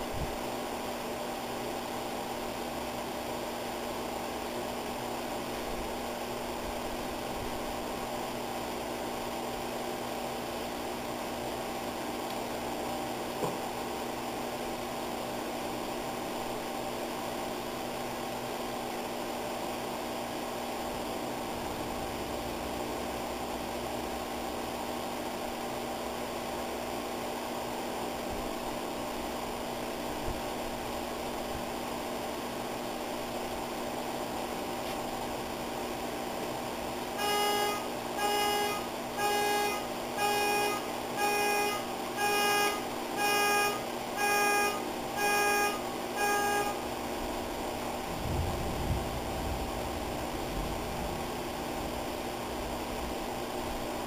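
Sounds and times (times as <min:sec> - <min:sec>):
steady hum with hiss: 0:00.0 - 0:54.0.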